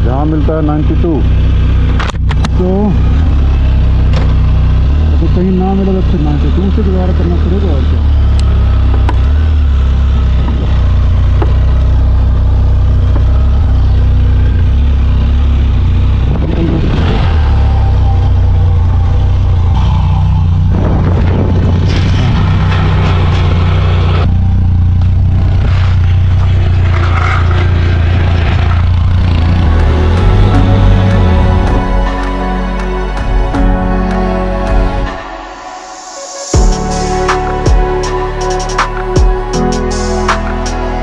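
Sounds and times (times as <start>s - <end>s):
motorcycle engine at low speed: 0.0s - 33.8s.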